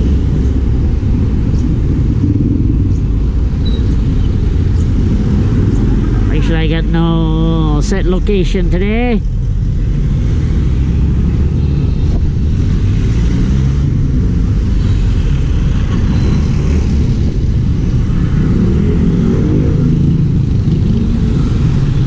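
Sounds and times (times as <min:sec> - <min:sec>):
low road rumble: 0:00.0 - 0:22.0.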